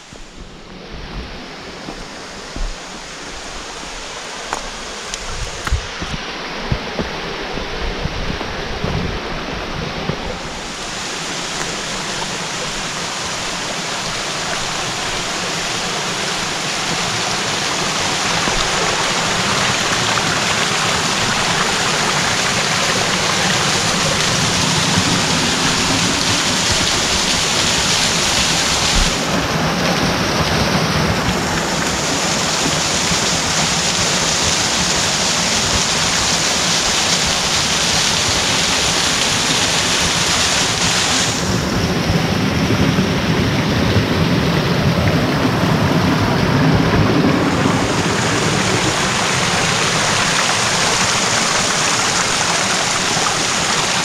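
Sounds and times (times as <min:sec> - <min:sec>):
rushing stream and waterfall: 0:00.0 - 0:54.0.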